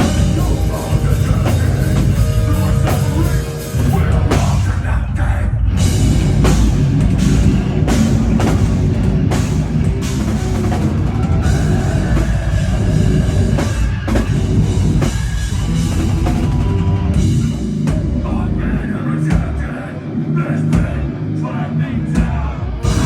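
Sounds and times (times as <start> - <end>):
metalcore band playing live: 0.0 - 23.0.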